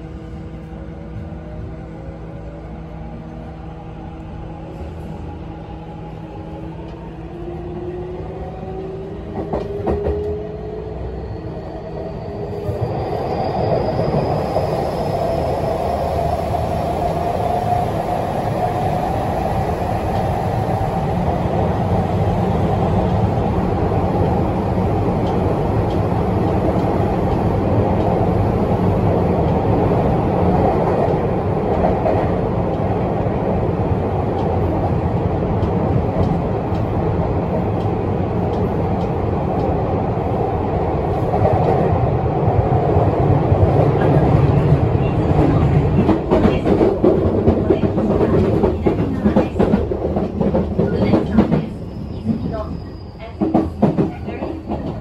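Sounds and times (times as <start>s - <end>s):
train wheels rumbling: 3.3s - 55.0s.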